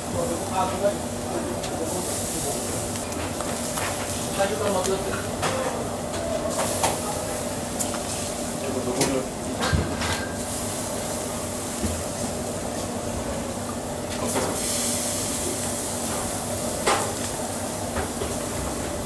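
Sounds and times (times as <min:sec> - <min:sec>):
steady kitchen hum: 0:00.0 - 0:19.0.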